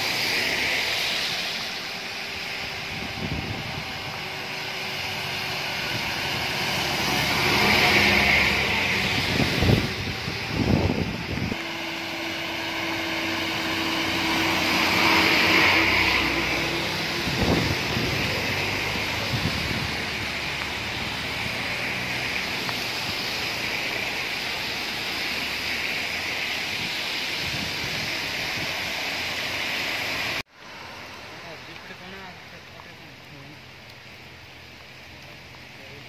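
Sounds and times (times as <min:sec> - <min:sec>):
bus engine humming: 0:00.0 - 0:31.6
steady rain: 0:00.0 - 0:36.0
tyre hiss on wet road: 0:00.0 - 0:36.0.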